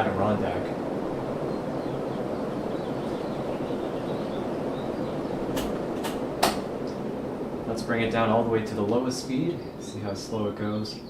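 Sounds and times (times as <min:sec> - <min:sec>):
ceiling fan whooshing: 0:00.0 - 0:11.0.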